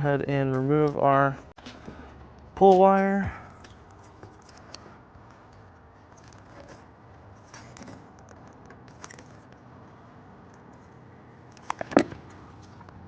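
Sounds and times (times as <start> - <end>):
faint rustling of wiring: 1.6 - 13.0.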